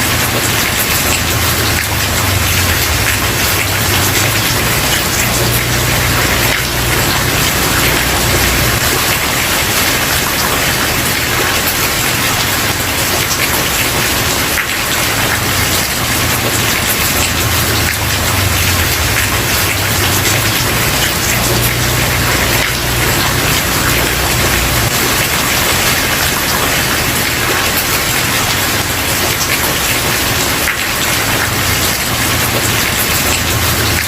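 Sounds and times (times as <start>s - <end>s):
rain pattering on wooden porch: 0.0s - 34.0s.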